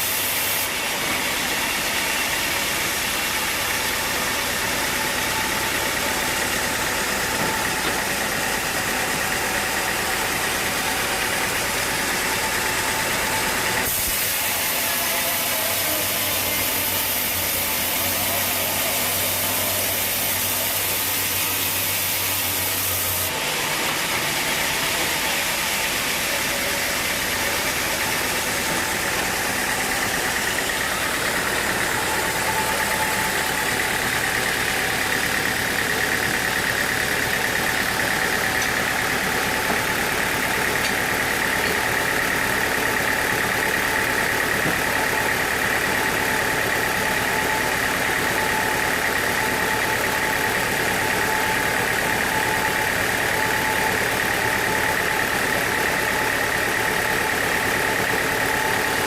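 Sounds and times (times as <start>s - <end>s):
lower machine whine: 0.0s - 59.0s
sawmill machinery high whine: 0.0s - 59.0s.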